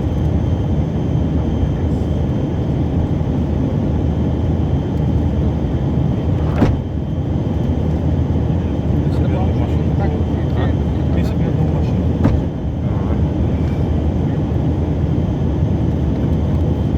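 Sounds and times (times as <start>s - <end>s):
jet engine and airflow rumble: 0.0s - 16.9s.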